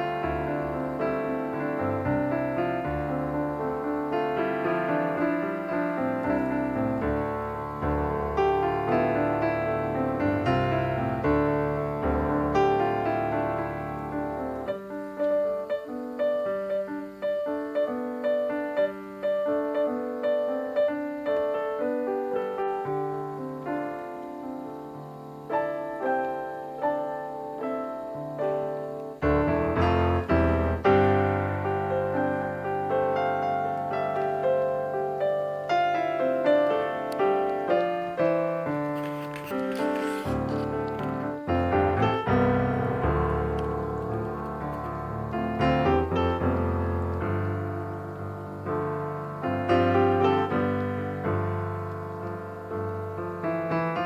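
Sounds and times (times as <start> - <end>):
piano single notes: 0.0 - 54.0.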